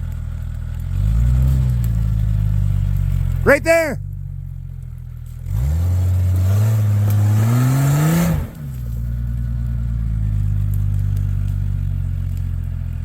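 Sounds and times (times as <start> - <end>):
vehicle engine revving: 0.3 - 3.4, 4.1 - 13.0.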